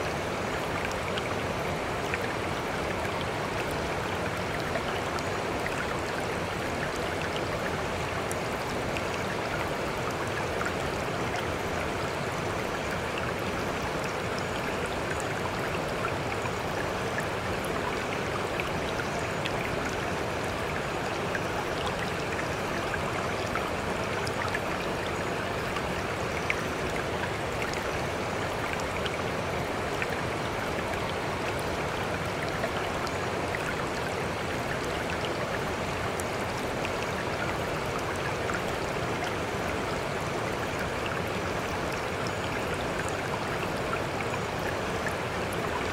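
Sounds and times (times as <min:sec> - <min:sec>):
faint water drips: 0:00.0 - 0:45.9
running water: 0:00.0 - 0:45.9.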